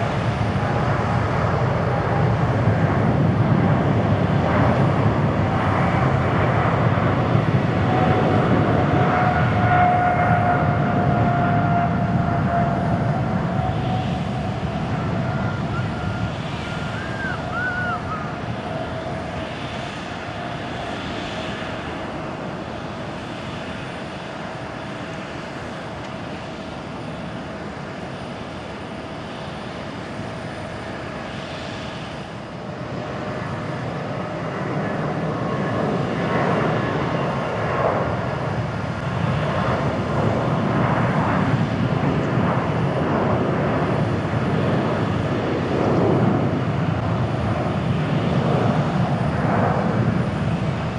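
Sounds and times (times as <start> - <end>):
jet engines at takeoff roaring: 0.0 - 50.9.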